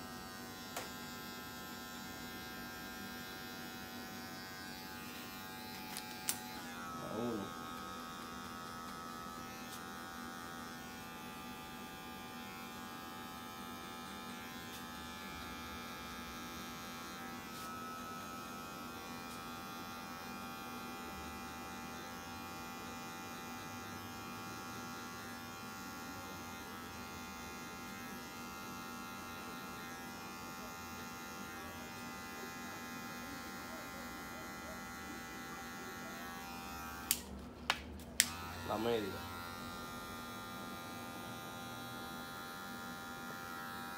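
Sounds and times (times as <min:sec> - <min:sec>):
electric hair clippers buzzing: 0:00.0 - 0:43.9.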